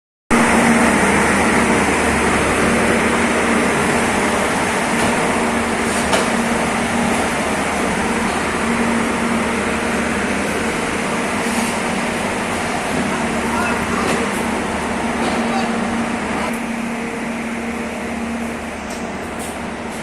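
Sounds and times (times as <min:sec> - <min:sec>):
locomotive engine running: 0:00.3 - 0:20.0.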